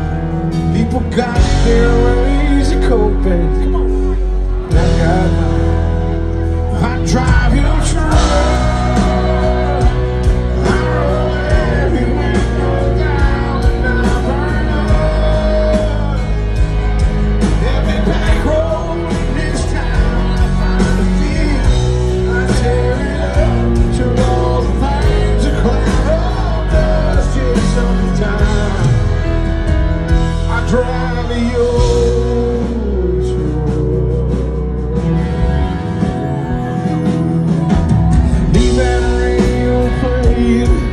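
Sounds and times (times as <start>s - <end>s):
live country band playing: 0.0s - 40.9s
man singing lead vocal: 0.0s - 40.9s.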